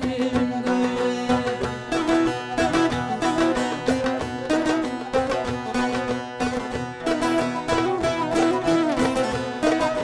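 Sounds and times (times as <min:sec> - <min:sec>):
plucked string folk music: 0:00.0 - 0:10.0.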